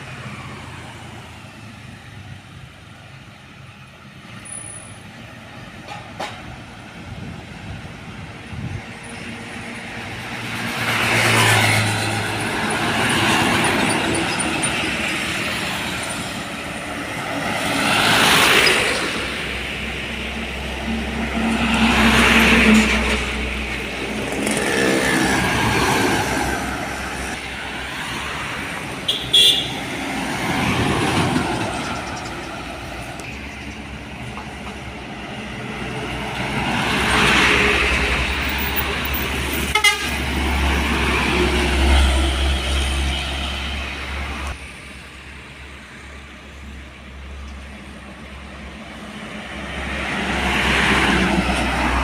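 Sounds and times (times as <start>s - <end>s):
trucks passing by: 0.0s - 52.0s.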